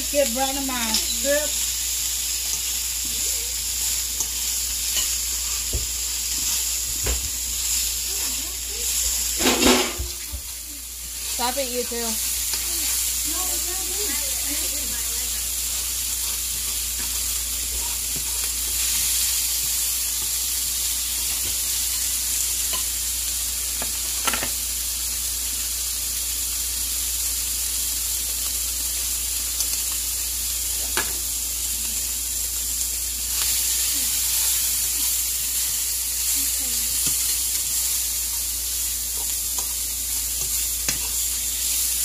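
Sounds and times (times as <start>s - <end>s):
shrimp sizzling in oil: 0.0s - 42.0s.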